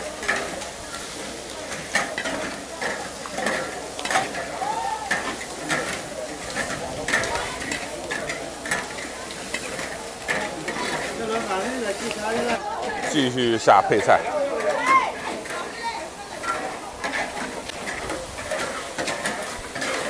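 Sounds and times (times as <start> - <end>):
food sizzling: 0.0 - 20.0
metal spatulas scraping iron woks: 0.2 - 20.0.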